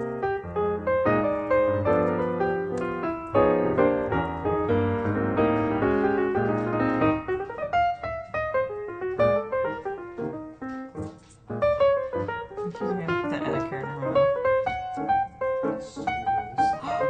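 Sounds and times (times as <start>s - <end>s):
lively piano melody: 0.0s - 17.0s.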